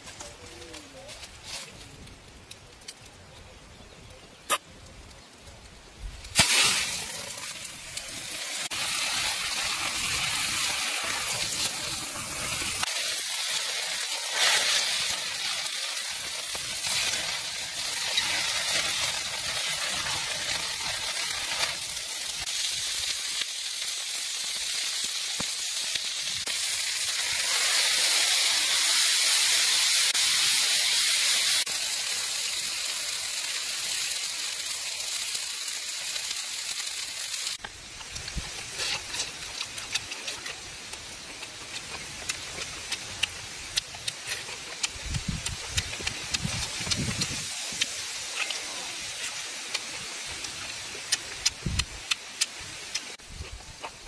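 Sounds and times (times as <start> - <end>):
food sizzling on hot plate: 6.2 - 54.0.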